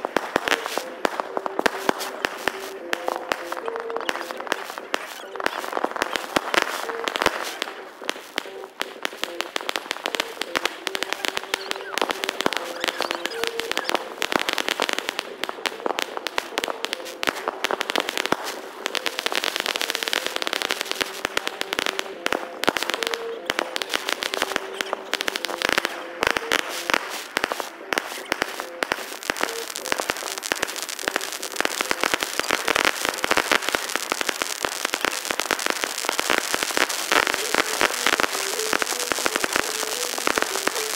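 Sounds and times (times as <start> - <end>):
fireworks cracking and popping: 0.0 - 40.9.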